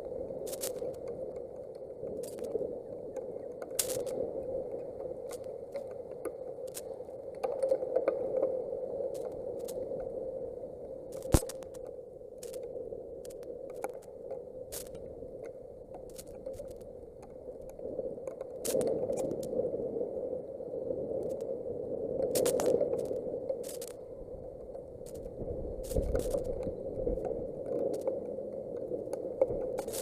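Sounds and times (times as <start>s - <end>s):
wind: 0.0s - 30.0s.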